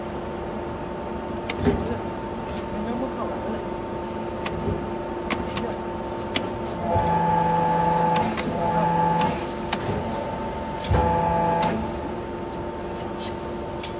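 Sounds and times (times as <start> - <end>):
machine hum: 0.0 - 13.9.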